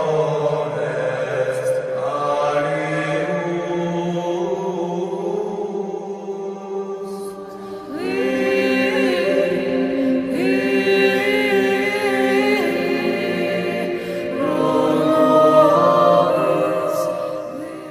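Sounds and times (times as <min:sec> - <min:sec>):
a cappella choir singing: 0:00.0 - 0:17.9.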